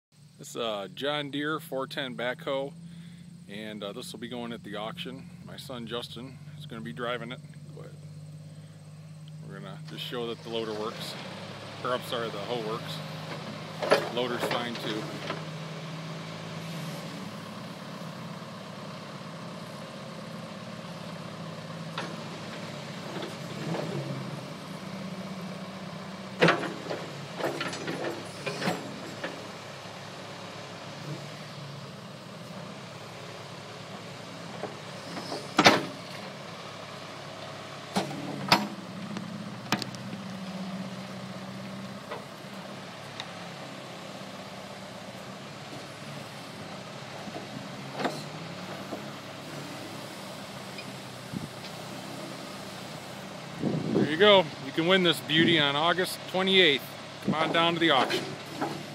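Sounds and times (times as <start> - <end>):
backhoe engine running: 0.1 - 58.9.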